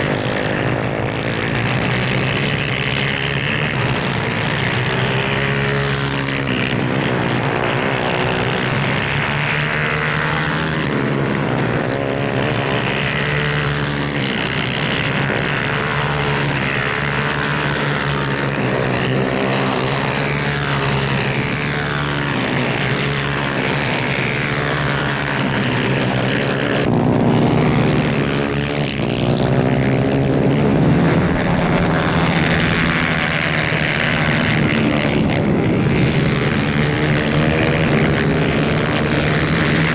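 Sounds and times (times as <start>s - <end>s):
kart engines racing at high revs: 0.0s - 39.9s.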